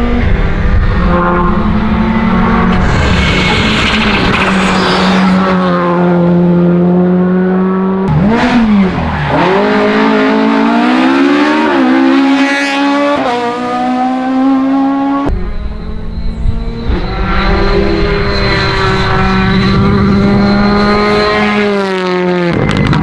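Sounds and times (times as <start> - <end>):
rally car engine at high revs: 0.0 - 23.0.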